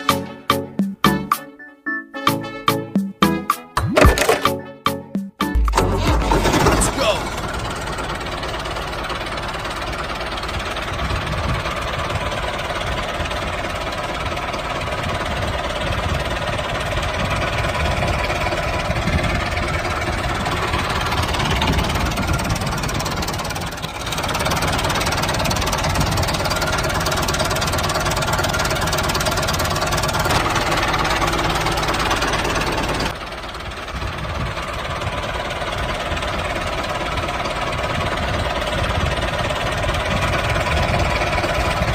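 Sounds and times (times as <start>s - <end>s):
small tractor engine chugging: 5.6s - 41.9s.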